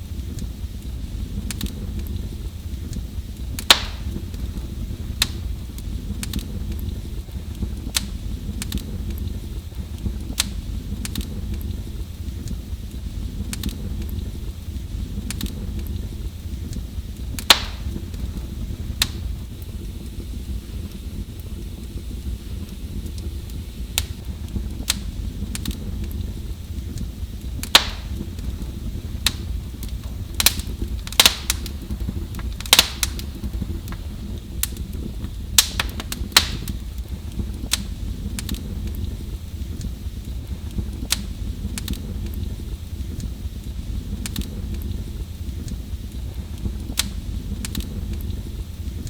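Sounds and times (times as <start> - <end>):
fire crackling and popping: 0.0 - 49.0
fire flames rumbling: 0.0 - 49.0.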